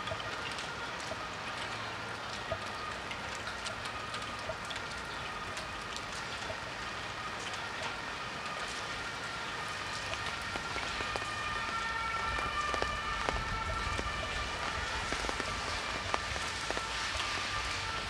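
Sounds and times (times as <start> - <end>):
rain falling on street: 0.0 - 18.0.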